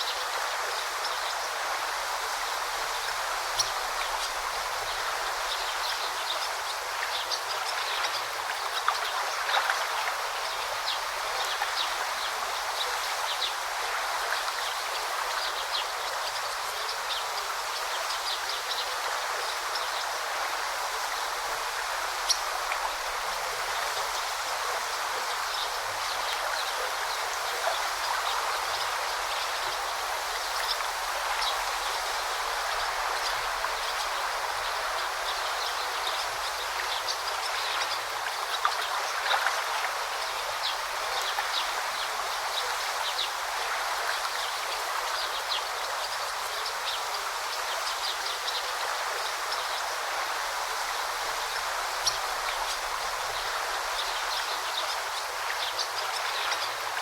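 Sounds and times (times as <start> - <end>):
forest stream babbling: 0.0 - 57.0.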